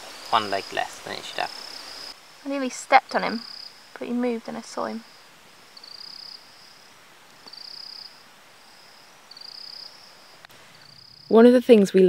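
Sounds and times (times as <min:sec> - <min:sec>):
insects pulsed buzzes: 0:00.0 - 0:11.6
faint high insect trill: 0:00.0 - 0:11.8.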